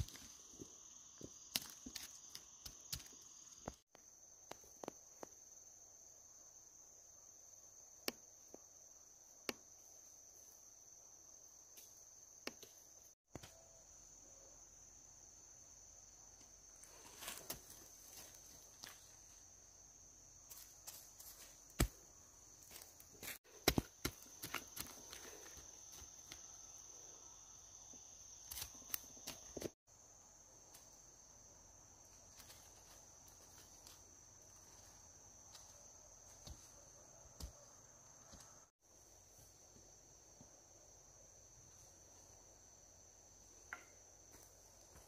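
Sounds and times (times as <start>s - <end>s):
insects trilling: 0.0s - 45.0s.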